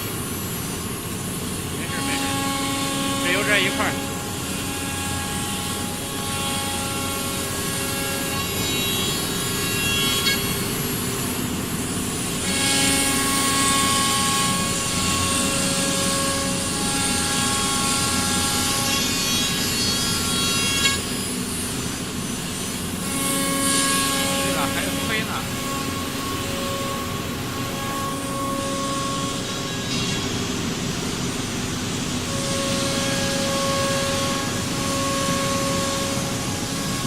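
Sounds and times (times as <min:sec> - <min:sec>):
router spindle whine: 0:00.1 - 0:37.0.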